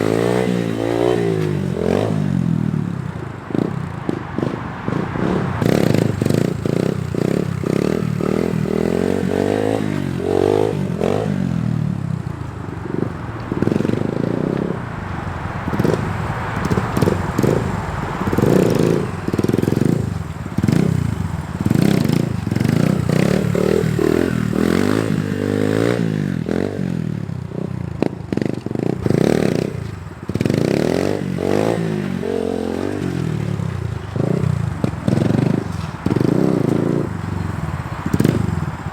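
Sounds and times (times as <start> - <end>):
dirt bike engine revving: 0.0 - 2.9, 3.5 - 38.9.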